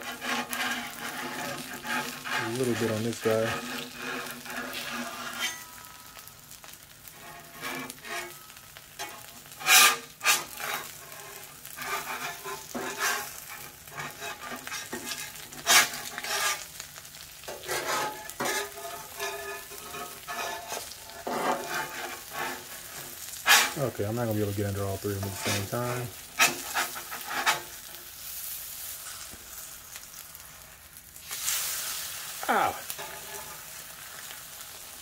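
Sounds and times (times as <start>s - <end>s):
eggs sizzling on griddle: 0.0s - 35.0s
metal spatula scraping griddle: 0.0s - 35.0s.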